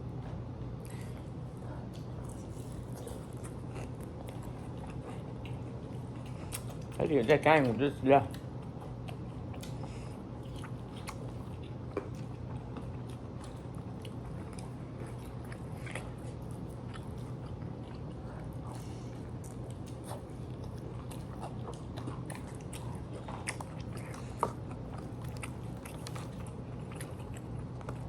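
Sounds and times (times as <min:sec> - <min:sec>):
chewing crunchy food: 0:00.0 - 0:28.0
steady low hum: 0:00.0 - 0:28.0.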